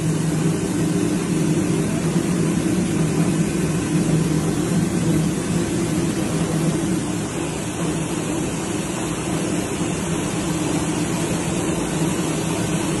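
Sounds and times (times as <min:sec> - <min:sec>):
machinery hum and whir: 0:00.0 - 0:13.0.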